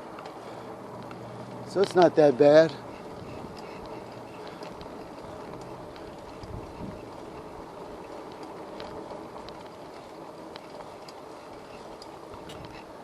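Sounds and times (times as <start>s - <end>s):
bicycle rolling on pavement: 0.0s - 13.0s.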